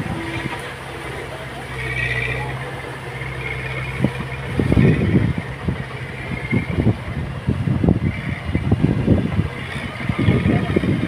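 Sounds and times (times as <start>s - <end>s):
construction machine rumbling: 0.0s - 11.0s.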